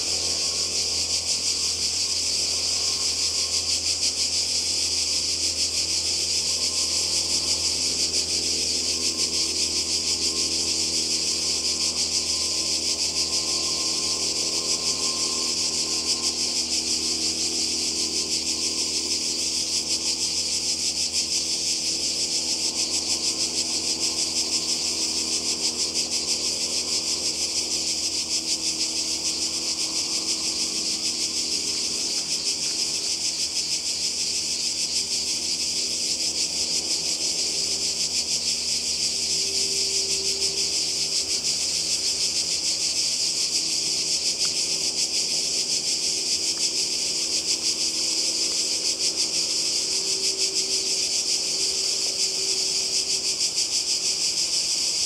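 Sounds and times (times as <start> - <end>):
cicadas buzzing: 0.0 - 55.0
distant motorboat engines drone: 0.0 - 55.0.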